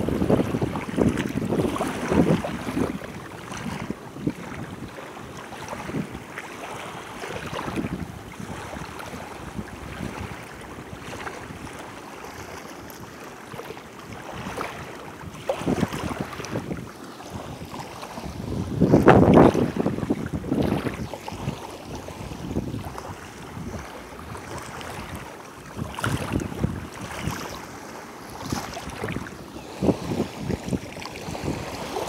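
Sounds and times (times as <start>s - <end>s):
wind buffeting microphone: 0.0s - 6.3s, 6.9s - 32.0s
small waves lapping: 0.0s - 32.0s.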